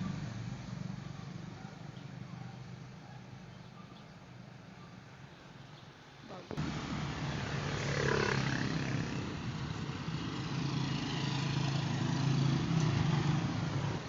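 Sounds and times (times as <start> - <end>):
vehicle engine running: 0.0 - 3.8, 6.5 - 14.0.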